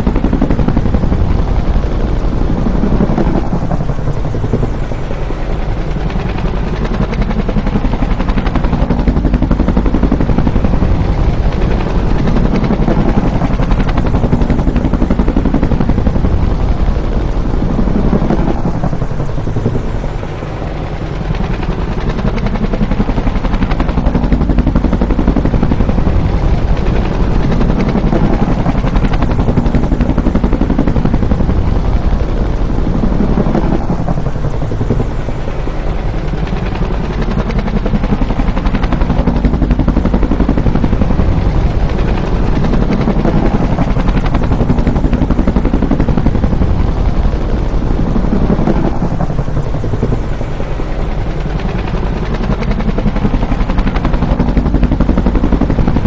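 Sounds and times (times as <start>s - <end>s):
helicopter engine noise: 0.0s - 56.0s
helicopter rotor beating: 0.0s - 56.0s.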